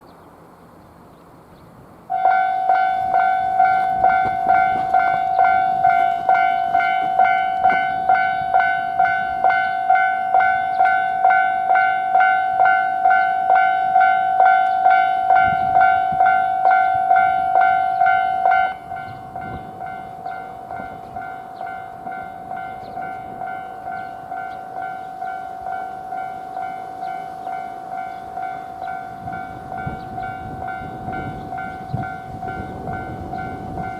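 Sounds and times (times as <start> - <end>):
level crossing warning bell ringing: 2.1 - 33.9.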